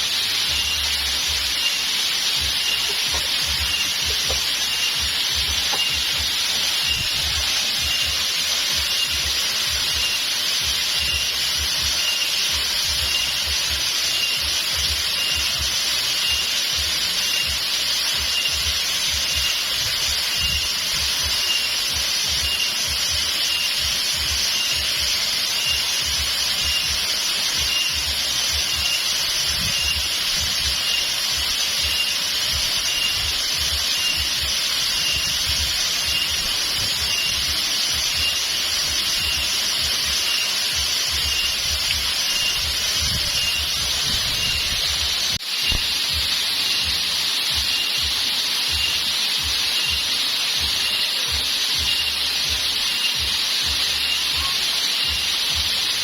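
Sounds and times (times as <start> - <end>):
waterfall rushing: 0.0 - 56.0
faint high chirp: 0.4 - 48.1, 48.7 - 55.6.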